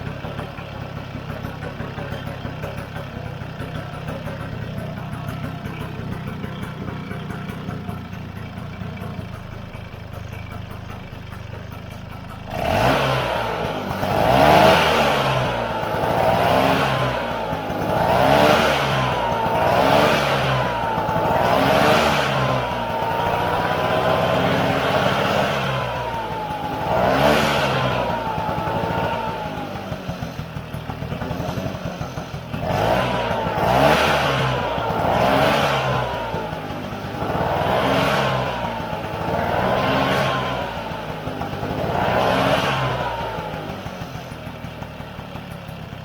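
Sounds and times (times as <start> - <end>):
scooter engine revving: 0.0 - 46.0.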